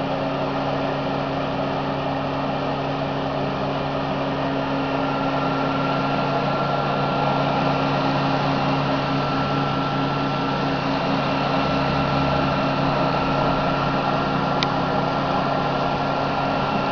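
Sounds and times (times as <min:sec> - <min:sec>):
machine hum and whine: 0:00.0 - 0:16.9.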